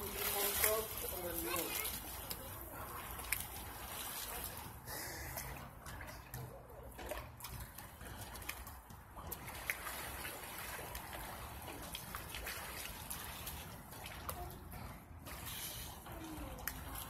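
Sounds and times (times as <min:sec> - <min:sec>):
pool water sloshing: 0:00.0 - 0:17.0
small ticks and splashes: 0:00.0 - 0:17.0.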